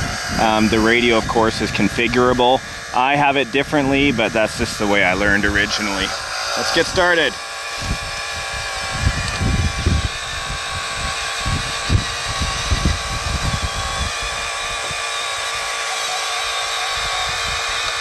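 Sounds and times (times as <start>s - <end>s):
hydraulic pump whining: 0.0s - 18.0s.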